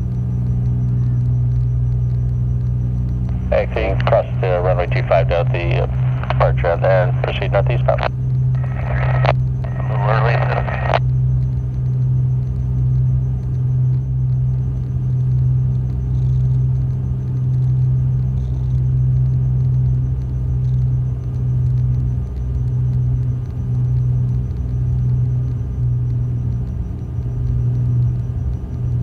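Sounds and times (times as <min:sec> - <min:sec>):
piston engines droning in cabin: 0:00.0 - 0:29.0.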